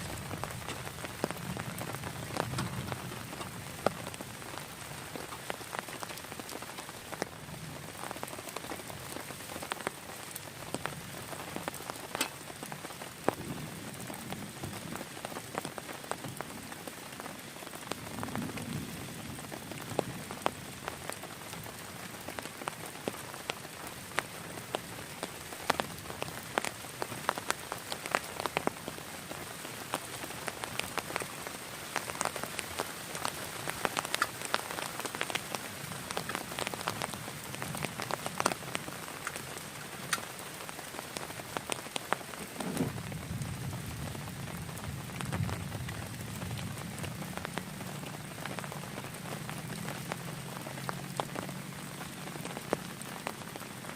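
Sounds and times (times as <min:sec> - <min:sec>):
heavy rain falling: 0:00.0 - 0:53.9
sharp raindrop strikes: 0:00.0 - 0:53.9.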